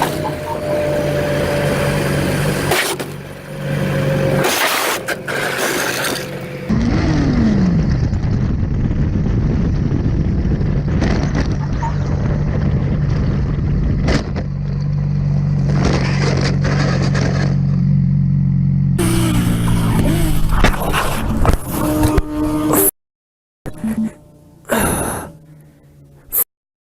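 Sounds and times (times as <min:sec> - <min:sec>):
vehicle engine running: 0:00.0 - 0:22.8
road and wind noise: 0:00.0 - 0:22.9.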